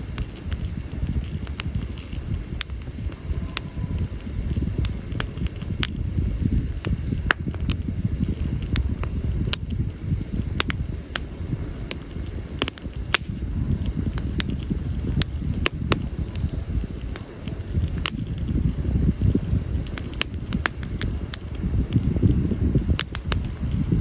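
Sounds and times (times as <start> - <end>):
campfire crackling and popping: 0.0 - 24.0
low steady rumble: 0.0 - 24.0.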